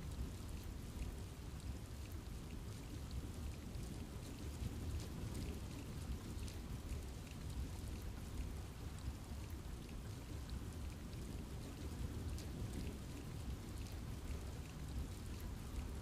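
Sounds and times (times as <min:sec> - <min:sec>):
raindrops ticking on leaves: 0:00.0 - 0:16.0
steady rain: 0:00.0 - 0:16.0.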